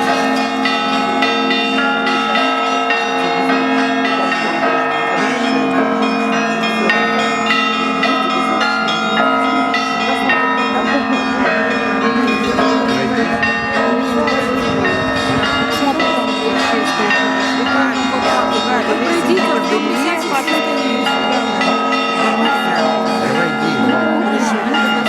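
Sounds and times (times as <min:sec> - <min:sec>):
low bell ringing: 0:00.0 - 0:25.0
small church bells ringing: 0:00.0 - 0:25.0.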